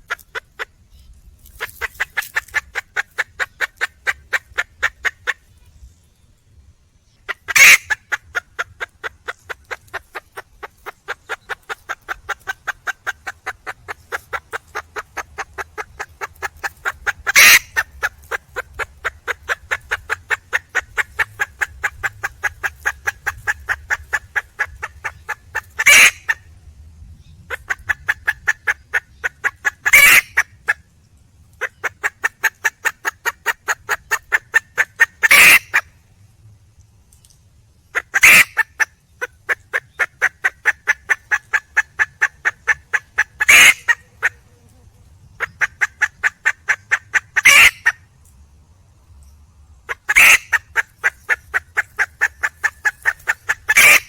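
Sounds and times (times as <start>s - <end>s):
hen clucking: 0.0s - 5.6s, 7.3s - 26.4s, 27.5s - 30.8s, 31.5s - 35.9s, 37.9s - 48.0s, 49.8s - 54.0s.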